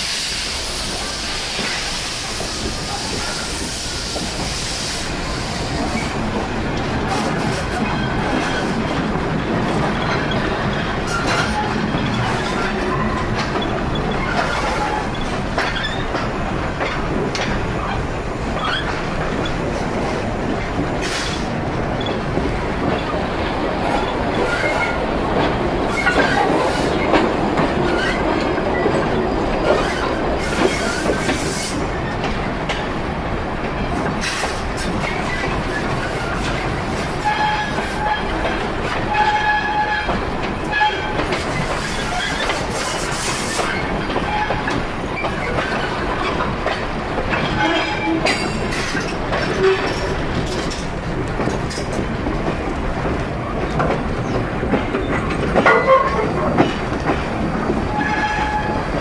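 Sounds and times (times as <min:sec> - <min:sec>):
train wheels rumbling on rails: 0:00.0 - 0:59.0
rail joint clicks: 0:00.2 - 0:59.0.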